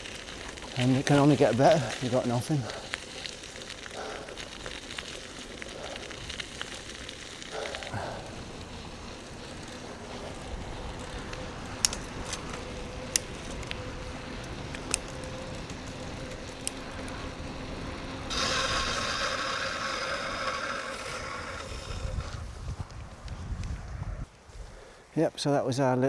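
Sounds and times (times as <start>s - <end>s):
bike tyres rolling on ground: 0.0s - 25.1s.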